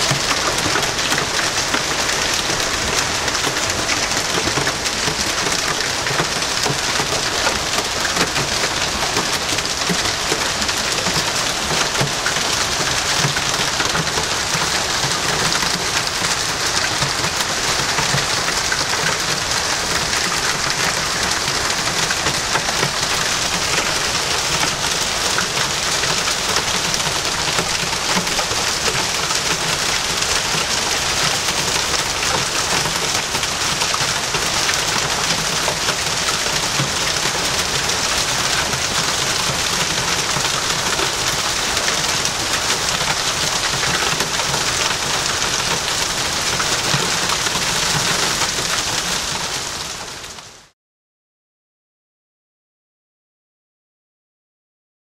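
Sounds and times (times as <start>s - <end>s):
heavy rain and hail: 0.0s - 50.7s.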